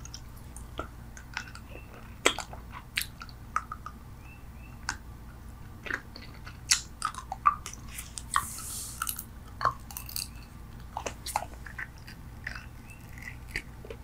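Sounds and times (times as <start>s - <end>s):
gum chewing mouth smacks: 0.0s - 4.0s, 5.8s - 14.0s.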